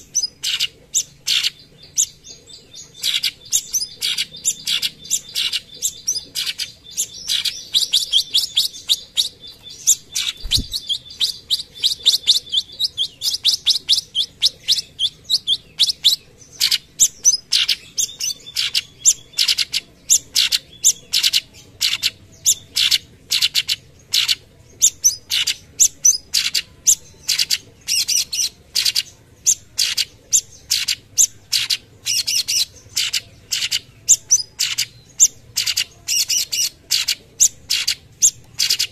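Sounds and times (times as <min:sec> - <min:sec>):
bird singing rapid chattering song: 0:00.0 - 0:38.9.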